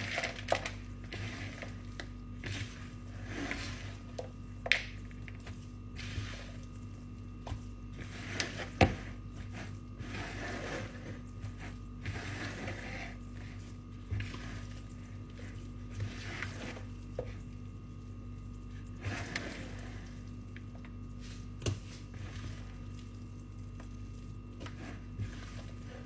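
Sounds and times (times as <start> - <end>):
dough clicking and rustling: 0.0 - 26.0
motor hum: 0.0 - 26.0.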